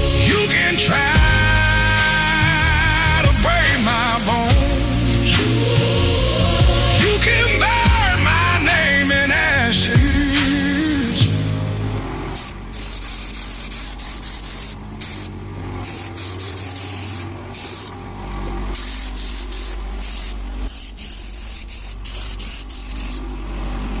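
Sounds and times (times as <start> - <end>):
spray gun hissing: 0.0 - 11.6, 12.4 - 18.0, 18.8 - 23.6
steady low hum: 0.0 - 24.0.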